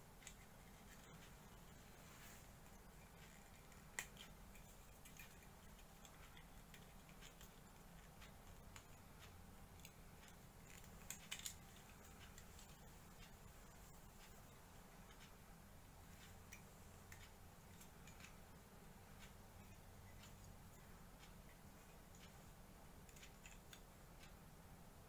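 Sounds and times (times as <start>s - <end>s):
low steady hum: 0.0s - 25.0s
small sharp clicks: 0.1s - 24.7s.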